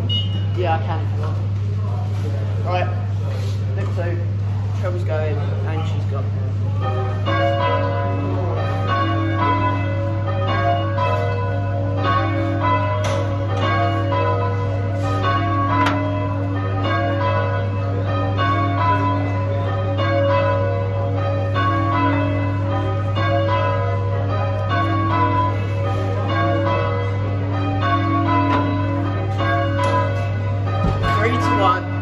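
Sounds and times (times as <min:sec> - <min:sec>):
church bells ringing in rotation: 0:00.0 - 0:01.8, 0:02.4 - 0:32.0.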